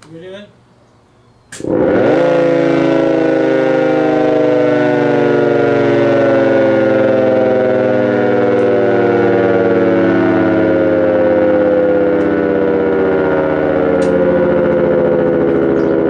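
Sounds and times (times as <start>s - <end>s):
air raid siren winding down: 0.9s - 16.0s.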